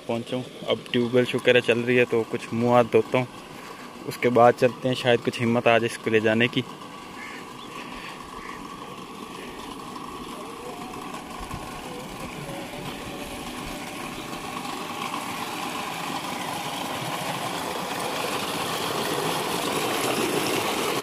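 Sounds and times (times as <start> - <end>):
faint pump hum: 0.0 - 21.0
water gushing into tank: 0.0 - 21.0.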